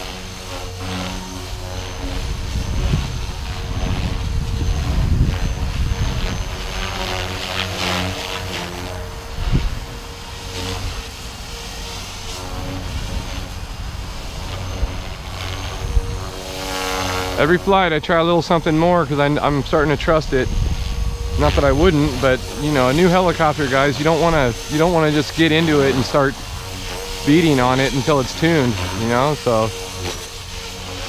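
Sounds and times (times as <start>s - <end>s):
model helicopter rotor whirring: 0.0s - 31.0s.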